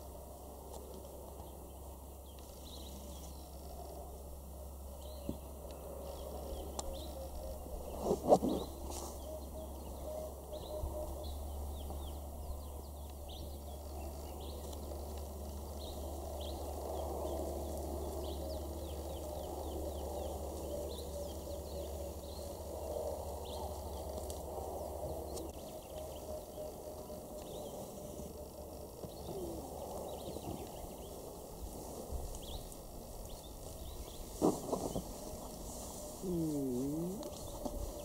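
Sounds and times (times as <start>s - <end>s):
steady low hum: 0.0s - 38.0s
small birds chirping: 0.8s - 38.0s.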